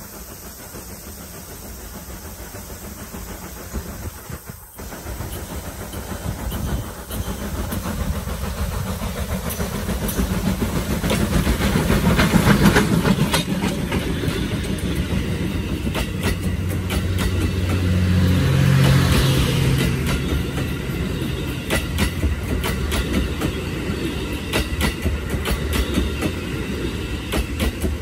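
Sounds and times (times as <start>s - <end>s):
steam locomotive exhaust beats: 0.0s - 28.0s
train wheels clattering on rails: 0.0s - 28.0s.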